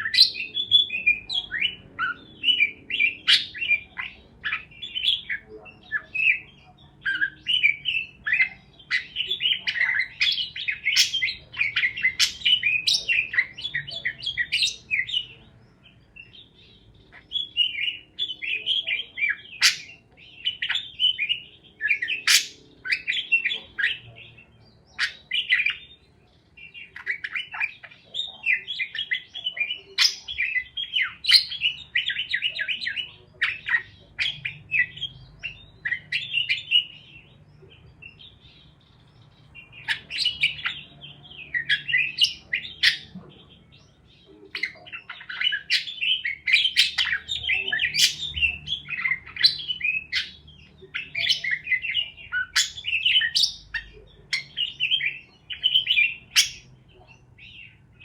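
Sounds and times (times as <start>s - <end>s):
parakeets chirping and squawking: 0.0s - 58.0s.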